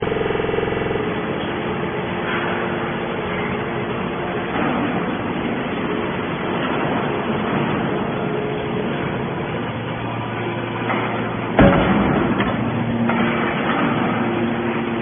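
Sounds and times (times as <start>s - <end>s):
machinery running: 0.0s - 15.0s
strong hum: 0.0s - 15.0s.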